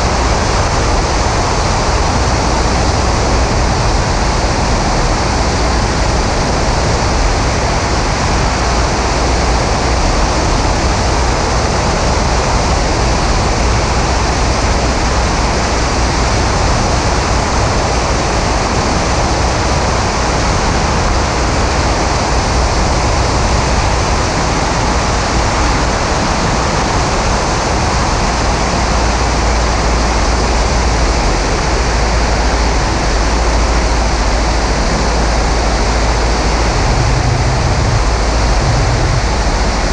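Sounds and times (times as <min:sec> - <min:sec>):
aircraft engine and propeller: 0:00.0 - 0:39.9
airstream buffeting microphone: 0:00.0 - 0:39.9.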